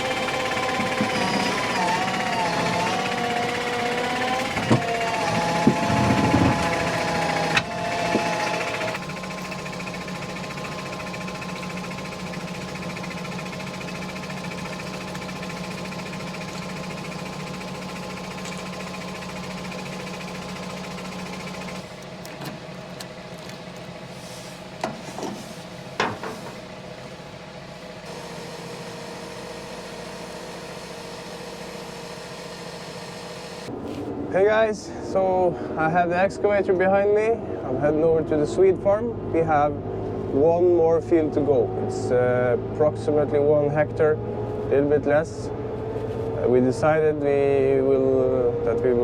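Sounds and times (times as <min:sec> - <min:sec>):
vehicle engine running: 0:00.0 - 0:34.1, 0:34.8 - 0:49.0.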